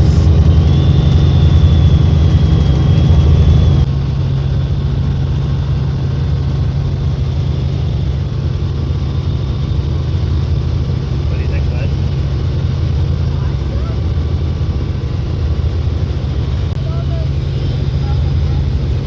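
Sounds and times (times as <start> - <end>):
helicopter engine and rotor drone: 0.0 - 19.0
high whine: 0.0 - 19.0.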